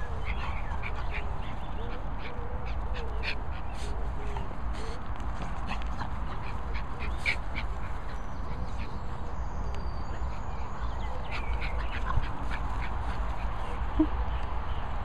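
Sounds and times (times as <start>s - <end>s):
dogs grunting and snorting: 0.0s - 14.3s.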